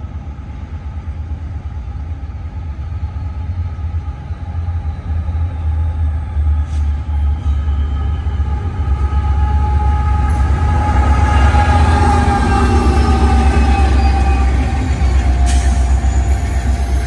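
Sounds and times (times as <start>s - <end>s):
diesel locomotives rumbling: 0.0s - 17.0s.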